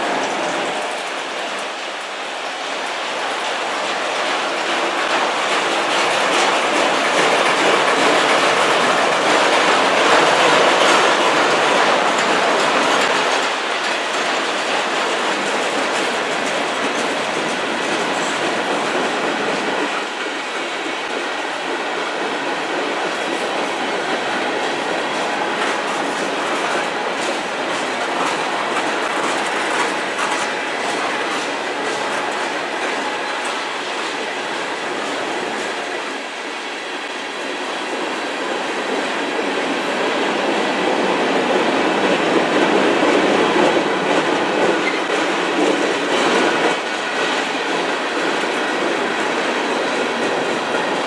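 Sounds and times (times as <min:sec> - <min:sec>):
freight train wheels rumbling on rails: 0:00.0 - 0:51.0.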